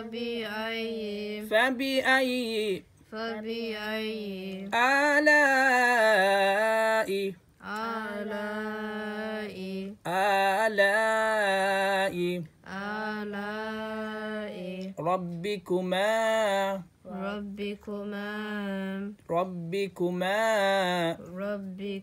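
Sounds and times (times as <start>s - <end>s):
person reciting melodically: 0.0s - 22.0s.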